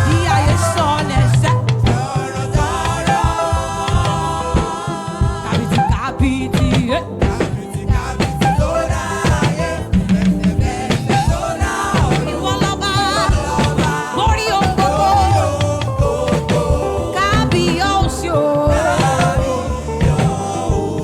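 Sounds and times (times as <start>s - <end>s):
band playing: 0.0s - 21.0s
drum kit steady beat: 0.0s - 21.0s
people singing gospel: 0.0s - 21.0s.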